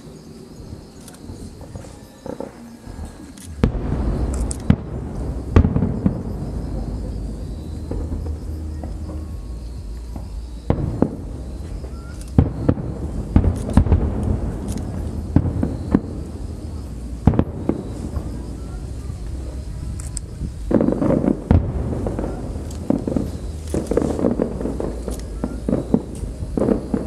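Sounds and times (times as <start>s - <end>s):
fireworks bangs: 0.6s - 27.0s
low rumble: 2.9s - 27.0s.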